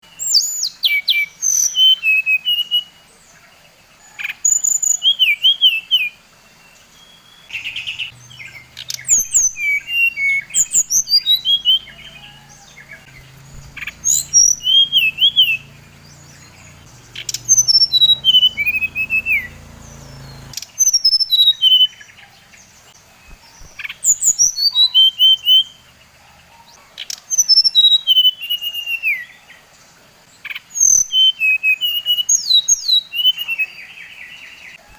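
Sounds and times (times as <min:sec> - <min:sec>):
bird singing whistled notes: 0:00.0 - 0:26.0, 0:27.0 - 0:29.6, 0:30.5 - 0:34.9.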